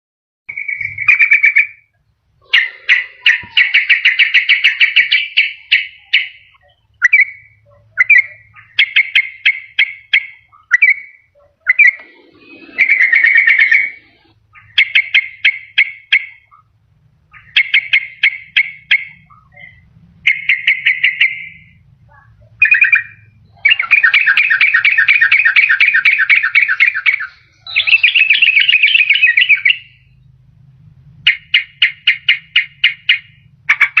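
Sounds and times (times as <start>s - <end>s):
bird singing bubbly phrases: 0.5s - 30.4s.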